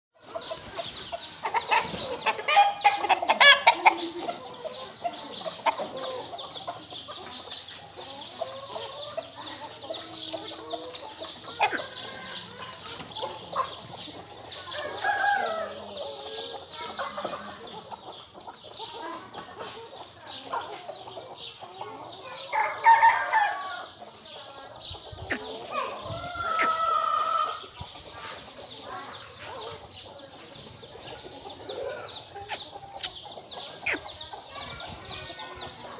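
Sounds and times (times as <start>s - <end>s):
chickens clucking: 0.2s - 35.9s.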